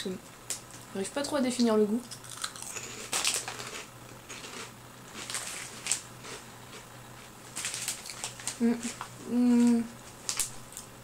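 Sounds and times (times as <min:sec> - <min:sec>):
cracker crunching: 0:02.0 - 0:11.0.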